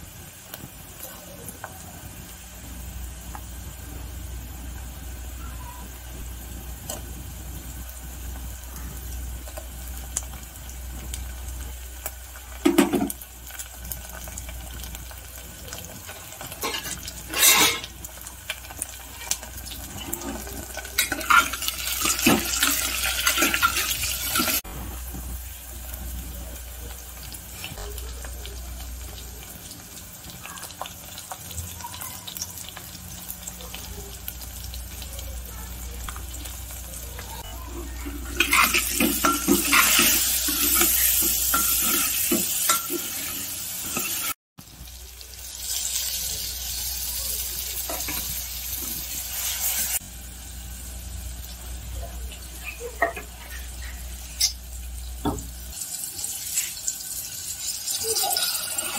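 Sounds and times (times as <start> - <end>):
vegetables sizzling in oil: 0.0 - 58.9.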